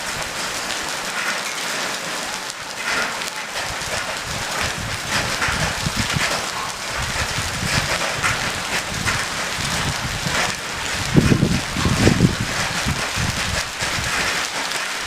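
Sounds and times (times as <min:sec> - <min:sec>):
hail and rain pattering: 0:00.0 - 0:15.0.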